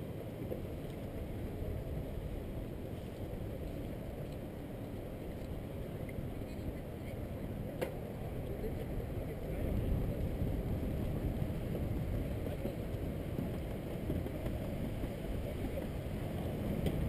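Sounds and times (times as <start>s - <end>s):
wind buffeting microphone: 0.0s - 17.0s
bicycle tyres rolling: 0.4s - 17.0s.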